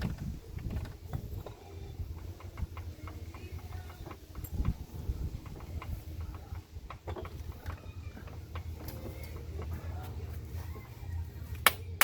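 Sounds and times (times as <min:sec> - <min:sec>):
metallic clicks and knocks: 0:00.0 - 0:09.8.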